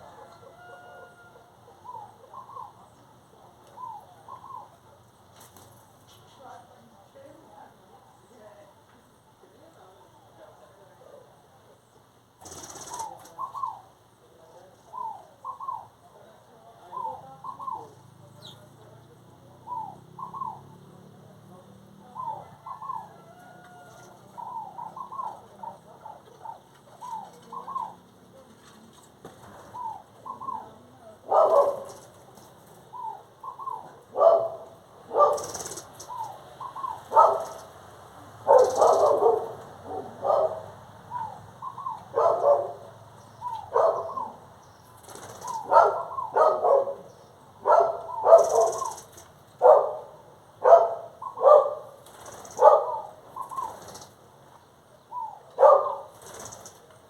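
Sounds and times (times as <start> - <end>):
harsh bird calls: 0.0 - 5.3, 11.9 - 28.5, 29.4 - 57.0
birds calling: 0.0 - 57.0.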